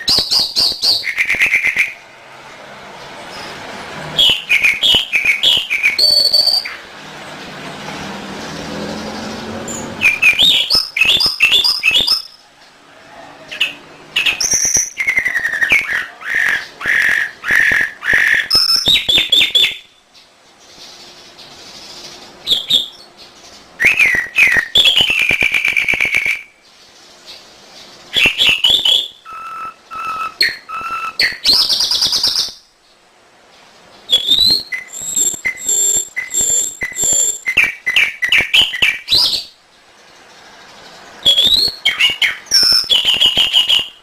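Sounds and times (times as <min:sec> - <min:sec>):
canary singing chirps and trills: 0:00.0 - 0:02.1, 0:02.8 - 0:44.0.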